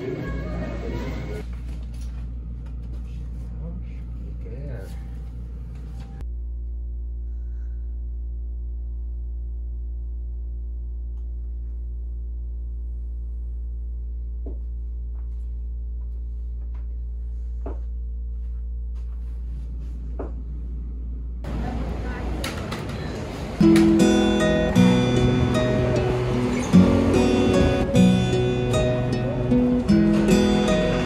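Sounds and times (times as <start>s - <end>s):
low mechanical drone: 0.0s - 31.0s.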